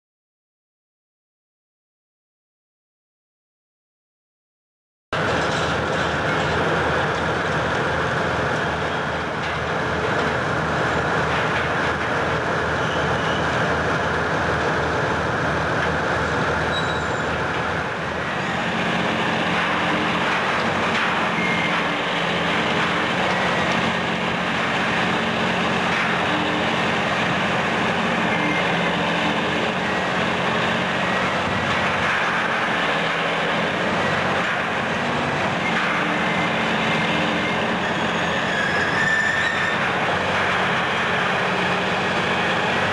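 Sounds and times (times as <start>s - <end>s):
excavator engine pulsing: 5.2s - 42.9s.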